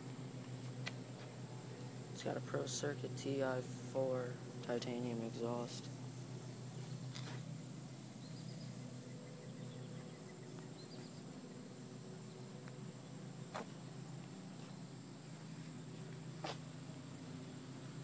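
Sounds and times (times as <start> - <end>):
steady high buzz: 0.0 - 18.0
steady low hum: 0.0 - 18.0.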